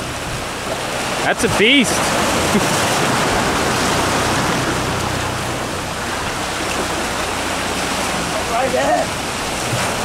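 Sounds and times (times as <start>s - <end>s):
ocean surf over rocks: 0.0s - 10.0s.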